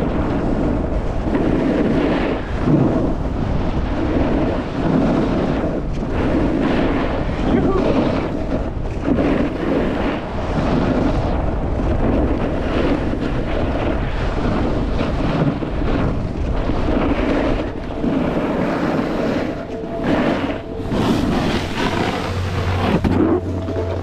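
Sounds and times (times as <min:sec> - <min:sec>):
snowboard scraping over snow: 0:00.0 - 0:24.0
wind buffeting microphone: 0:00.0 - 0:24.0.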